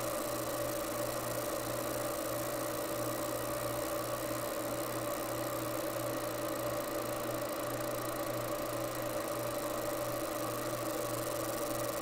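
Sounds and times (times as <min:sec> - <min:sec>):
laser engraver humming and buzzing: 0:00.0 - 0:12.0.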